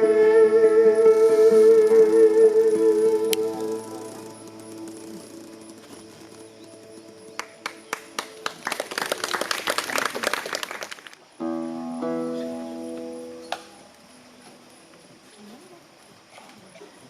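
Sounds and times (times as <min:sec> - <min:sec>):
held chord of steady tones: 0:00.0 - 0:09.9, 0:11.4 - 0:15.3.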